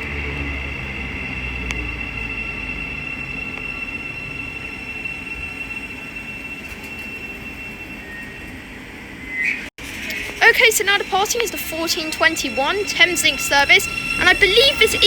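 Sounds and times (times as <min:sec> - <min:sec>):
electric train equipment whine: 0:00.0 - 0:15.0.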